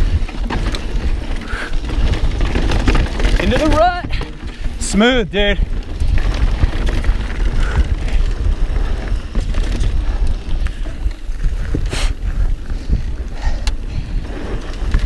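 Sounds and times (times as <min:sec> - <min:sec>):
bike knocks and rattles: 0:00.0 - 0:15.0
tyres rolling over dirt: 0:00.0 - 0:15.0
wind rumble on microphone: 0:00.0 - 0:15.0.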